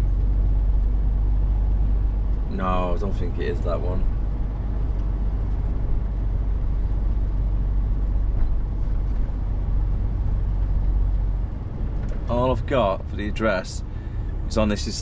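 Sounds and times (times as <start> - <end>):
lorry engine rumble from cab: 0.0 - 15.0.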